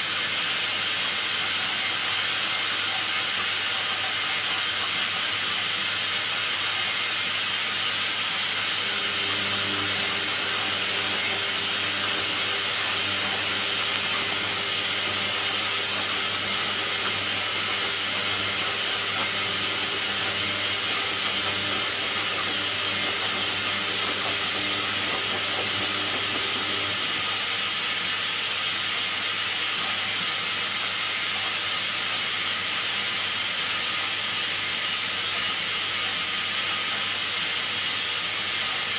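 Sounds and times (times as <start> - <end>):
water hissing into washing machine: 0.0 - 38.9.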